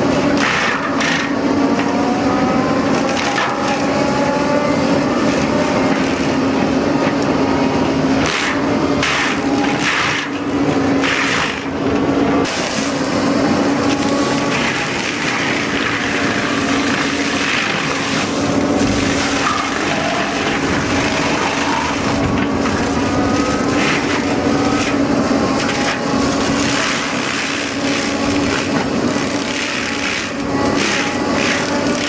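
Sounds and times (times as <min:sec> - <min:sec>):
wood cracking and grinding: 0:00.0 - 0:32.0
woodworking machine engine running: 0:00.0 - 0:32.0.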